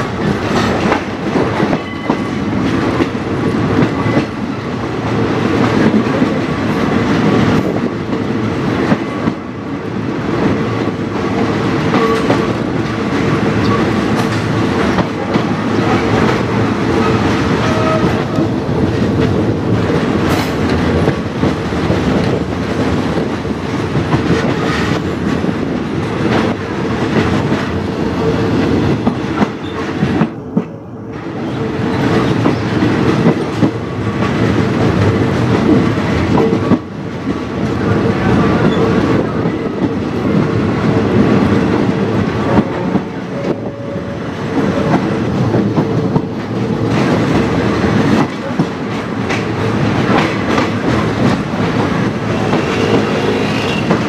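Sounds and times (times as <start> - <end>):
train wheels clattering over rail joints: 0.0 - 30.7, 31.4 - 54.0.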